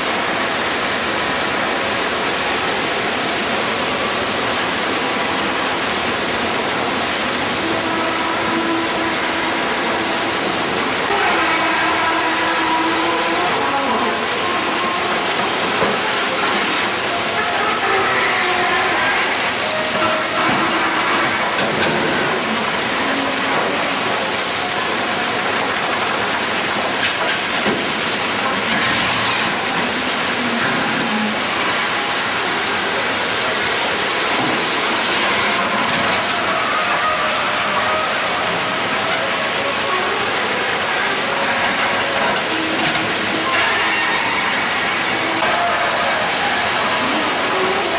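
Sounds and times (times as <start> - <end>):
dredge bucket line running: 0.0 - 47.9
water and gravel pouring: 4.8 - 47.9.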